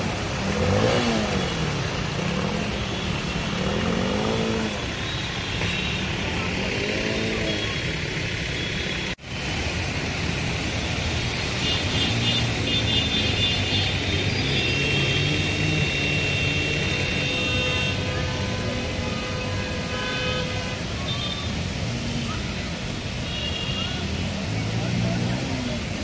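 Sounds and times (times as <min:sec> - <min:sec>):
traffic on wet road: 0:00.0 - 0:26.0.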